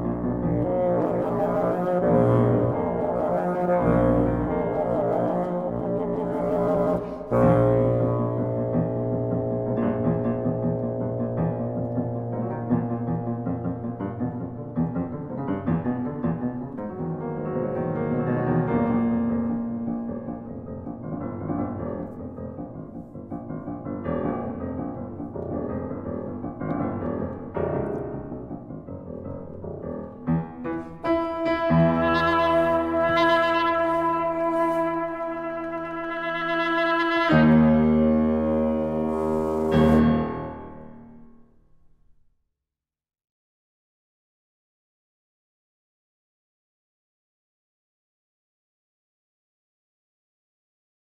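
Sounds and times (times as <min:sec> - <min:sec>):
piano passage: 0:00.0 - 0:42.2.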